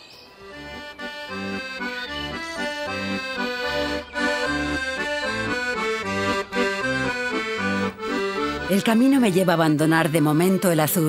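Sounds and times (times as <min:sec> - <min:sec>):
piano accordion playing folk tune: 0:00.4 - 0:11.0.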